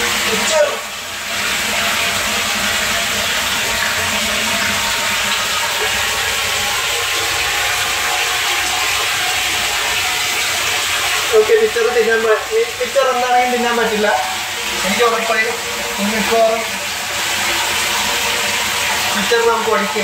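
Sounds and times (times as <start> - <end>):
water pouring into tank: 0.0 - 20.0.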